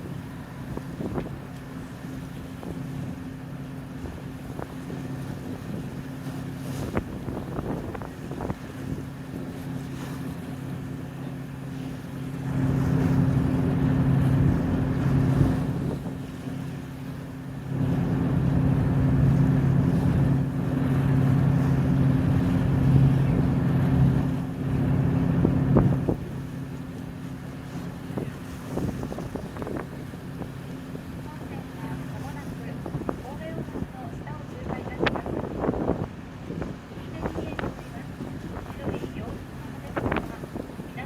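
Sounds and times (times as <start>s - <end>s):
boat engine humming: 0.0s - 41.0s
wind on microphone: 0.0s - 41.0s.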